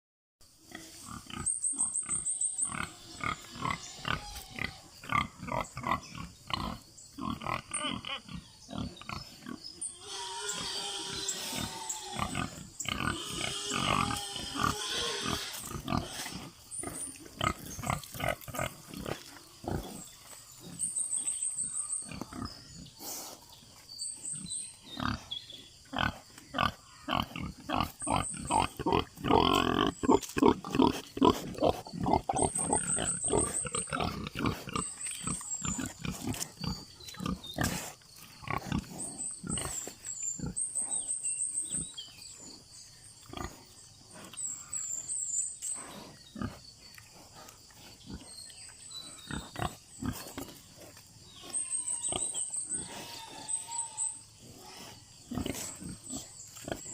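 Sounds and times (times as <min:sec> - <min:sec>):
pigs grunting: 0:00.7 - 0:23.6, 0:24.2 - 0:56.9.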